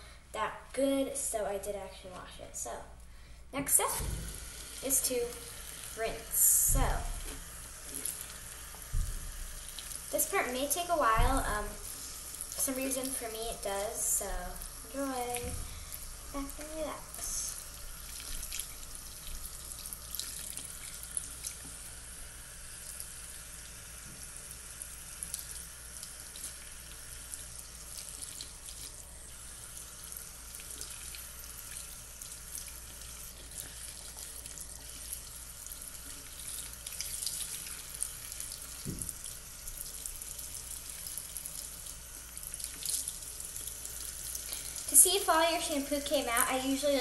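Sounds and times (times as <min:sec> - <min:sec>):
sink faucet running: 0:03.6 - 0:47.0.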